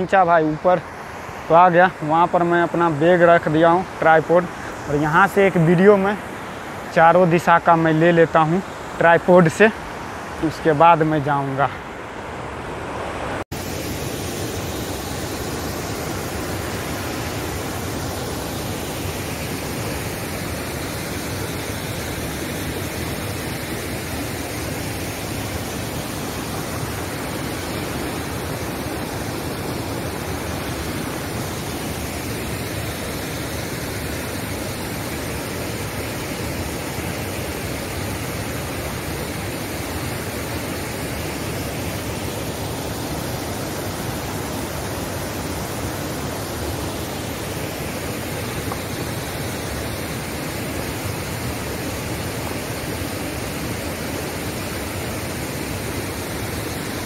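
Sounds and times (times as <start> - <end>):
water rushing over rapids: 0.0 - 57.0.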